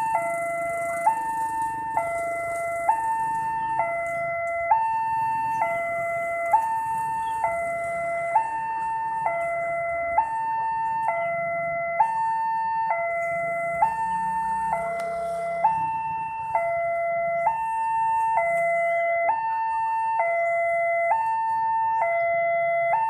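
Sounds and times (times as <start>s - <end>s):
two-tone crossing alarm: 0.0s - 23.0s.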